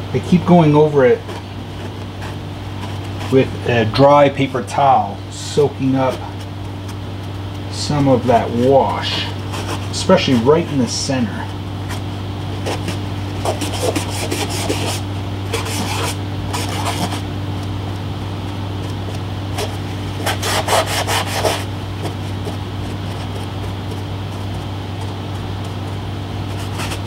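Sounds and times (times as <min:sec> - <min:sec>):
paper towel scrubbing surface: 0:00.2 - 0:04.4, 0:07.8 - 0:17.3, 0:18.5 - 0:27.0.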